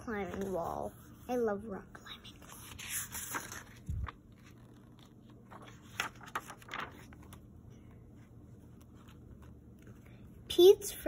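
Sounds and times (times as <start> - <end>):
faint paper rustles: 0.0 - 10.5
book page turning: 0.2 - 1.3, 2.3 - 10.3.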